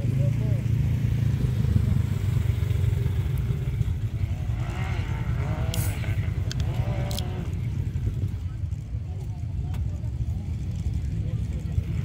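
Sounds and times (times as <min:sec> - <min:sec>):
off-road vehicle engines rumbling: 0:00.0 - 0:12.0.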